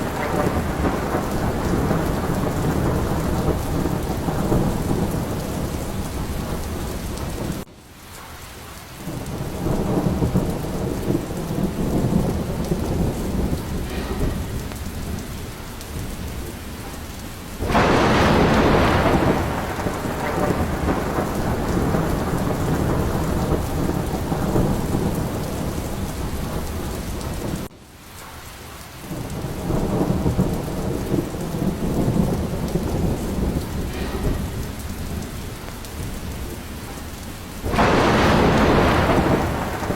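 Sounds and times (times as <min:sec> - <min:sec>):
low rumble of thunder: 0:00.0 - 0:07.7, 0:09.0 - 0:27.7, 0:29.0 - 0:39.9
sharp loud thunderclap: 0:00.0 - 0:07.7, 0:09.0 - 0:27.7, 0:29.1 - 0:39.9
steady rain: 0:00.0 - 0:39.9.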